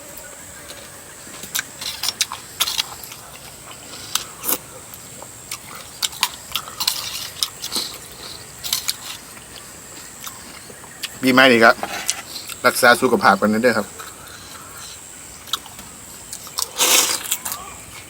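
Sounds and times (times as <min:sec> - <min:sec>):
wet chewing and sucking: 0:00.2 - 0:11.2, 0:11.8 - 0:12.6, 0:13.9 - 0:18.0.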